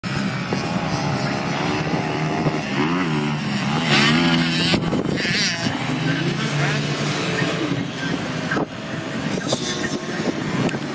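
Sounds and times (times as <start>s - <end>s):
pit bike engines revving: 0.0s - 10.9s.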